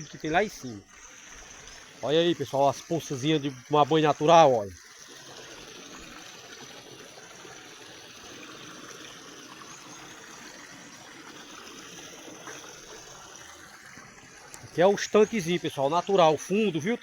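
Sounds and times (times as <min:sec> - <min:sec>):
stream water trickling over rock: 0:00.0 - 0:17.0.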